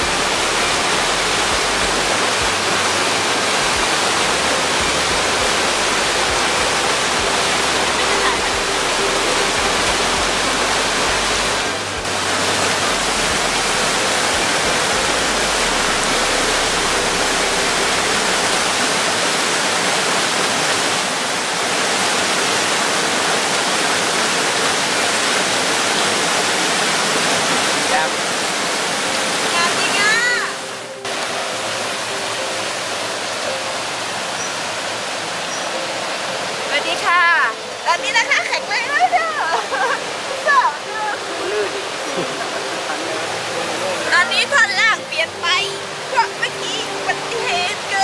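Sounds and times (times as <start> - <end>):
waterfall pouring: 0.0 - 48.0.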